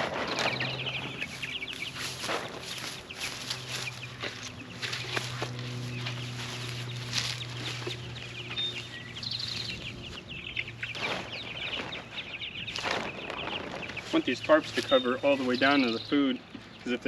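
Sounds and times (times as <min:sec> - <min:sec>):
chicks cheeping: 0:00.0 - 0:17.0
steady low hum: 0:00.0 - 0:17.0.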